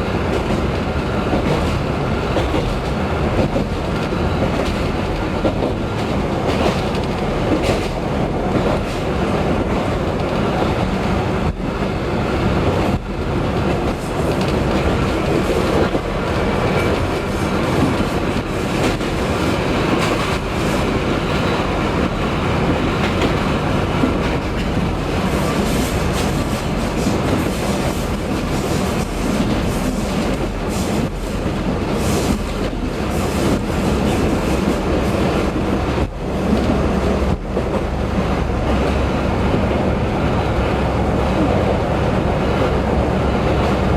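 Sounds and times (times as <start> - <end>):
train rumbling: 0.0 - 43.9
wheels clicking over rail joints: 0.2 - 40.4.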